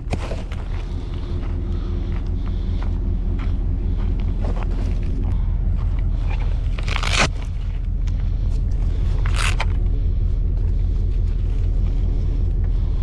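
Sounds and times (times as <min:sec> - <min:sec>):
gear rustling: 0:00.0 - 0:13.0
low rumble: 0:00.0 - 0:13.0.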